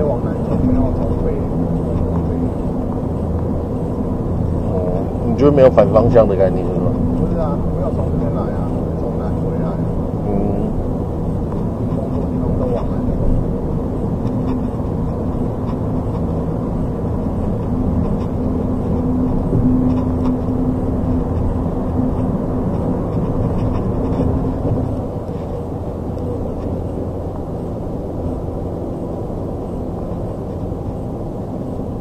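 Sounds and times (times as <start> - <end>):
car road and engine rumble: 0.0 - 32.0
steady hum: 0.0 - 32.0.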